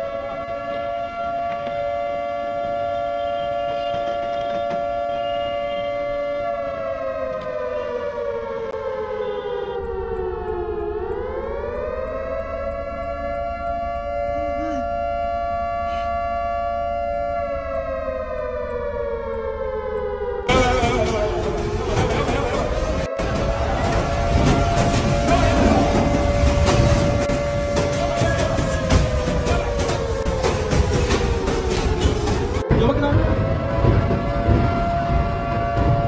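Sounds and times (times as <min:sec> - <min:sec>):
warning siren wailing: 0:00.0 - 0:36.0.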